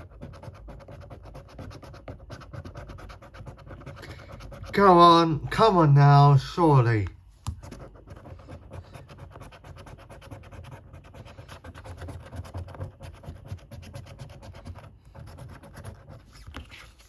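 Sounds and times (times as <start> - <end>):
scratch card being scratched: 0.0 - 5.0, 7.5 - 17.0.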